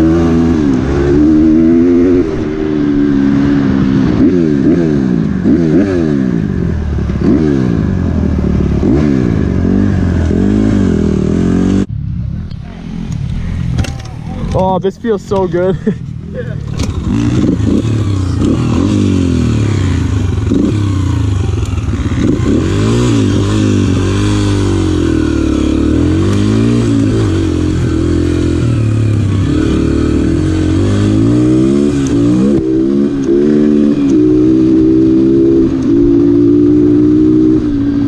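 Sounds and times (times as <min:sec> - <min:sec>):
dirt bike engine revving: 0:00.0 - 0:11.9, 0:15.3 - 0:38.0.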